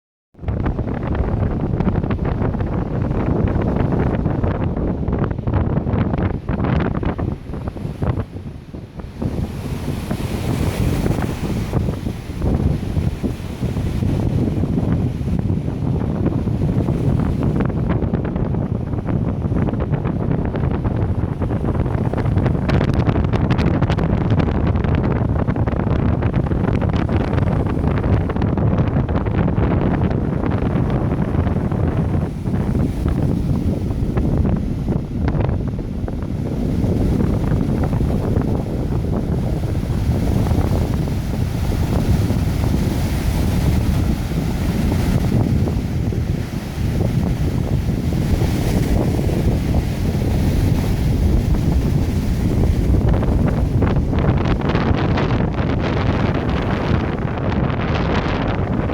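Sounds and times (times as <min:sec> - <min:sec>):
wind buffeting microphone: 0:00.4 - 0:58.9.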